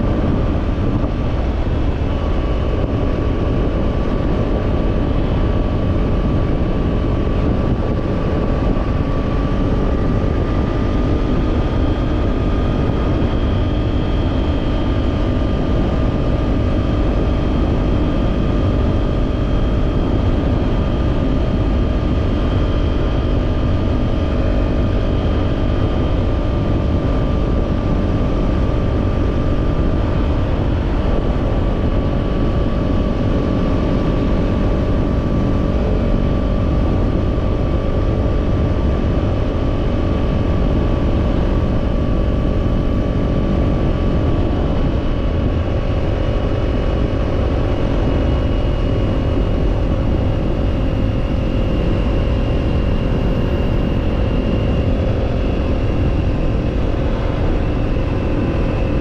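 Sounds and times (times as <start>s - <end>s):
heavy wind: 0.0s - 59.0s
motorcycle engine cruising: 0.0s - 59.0s
road rumble: 0.0s - 59.0s.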